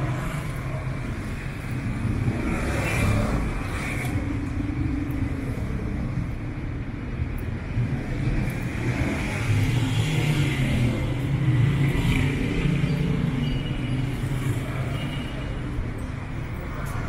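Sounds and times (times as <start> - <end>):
city street traffic: 0.0 - 17.0.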